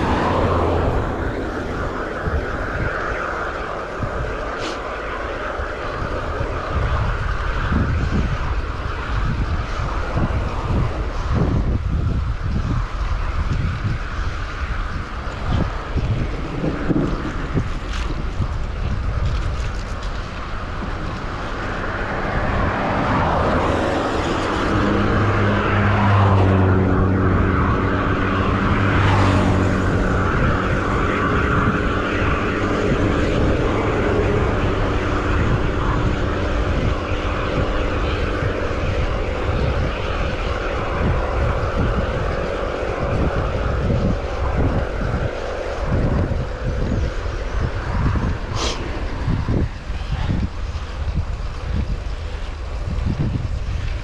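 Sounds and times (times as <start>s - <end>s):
passing engine hum: 0.0s - 54.0s
wind rushing over microphone: 0.0s - 54.0s.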